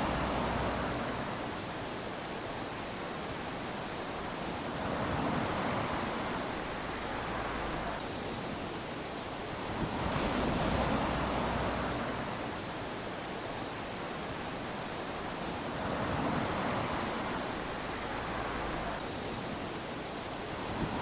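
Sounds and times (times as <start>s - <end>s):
small waves lapping on sand: 0.0s - 21.0s.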